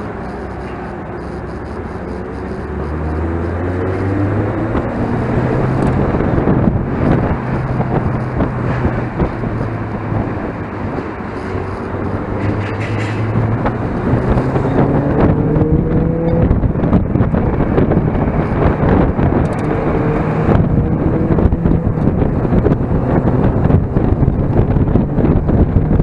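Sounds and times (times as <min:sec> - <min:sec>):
car engine running hard: 0:00.0 - 0:26.0.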